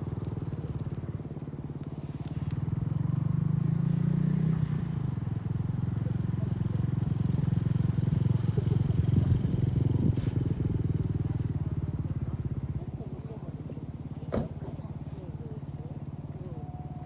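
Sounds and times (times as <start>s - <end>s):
engine running with low rumble: 0.0s - 17.0s.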